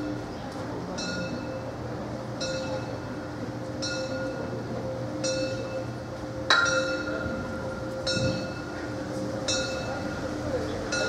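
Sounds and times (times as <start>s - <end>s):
railway bell ringing: 0.0s - 11.0s.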